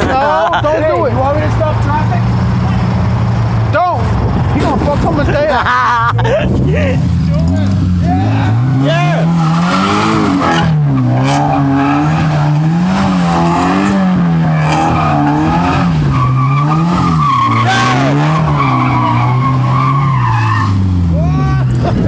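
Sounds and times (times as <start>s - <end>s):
car engine revving: 0.0s - 22.0s
tyres squealing on asphalt: 0.0s - 22.0s.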